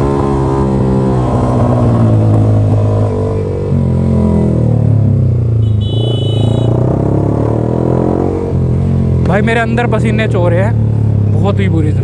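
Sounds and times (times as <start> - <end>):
motorcycle engine with loud exhaust: 0.0 - 12.0.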